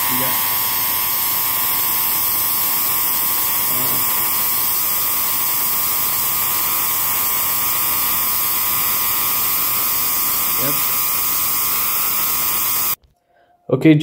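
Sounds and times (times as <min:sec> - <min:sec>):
tesla coil spark gap buzzing: 0:00.0 - 0:13.0.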